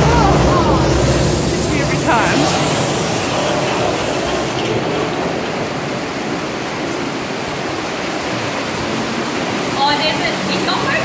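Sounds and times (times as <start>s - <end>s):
rushing river rapids: 0.0s - 11.0s.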